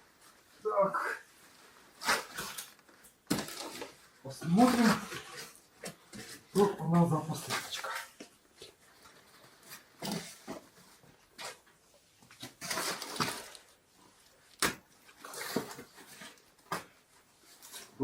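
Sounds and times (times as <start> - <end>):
parcel rustling: 0.0 - 18.0.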